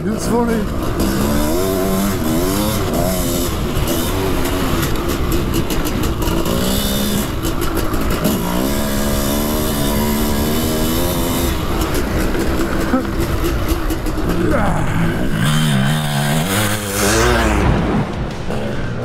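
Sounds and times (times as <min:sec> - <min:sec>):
two-stroke dirt bike engine revving: 0:00.0 - 0:19.0.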